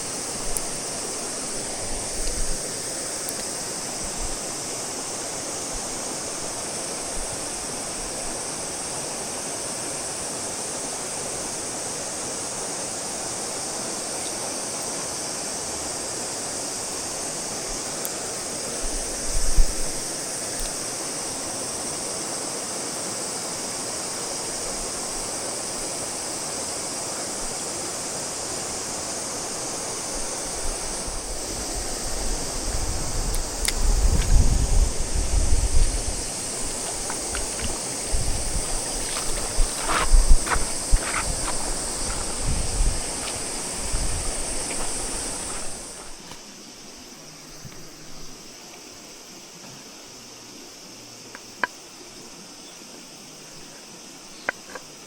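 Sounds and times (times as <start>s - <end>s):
rushing mountain stream: 0.0s - 55.0s.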